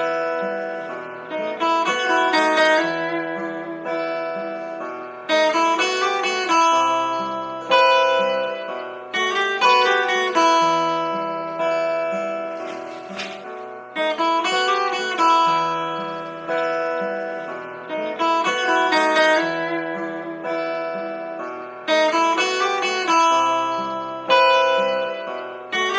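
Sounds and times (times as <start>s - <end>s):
plucked string instrument music: 0.0s - 25.9s.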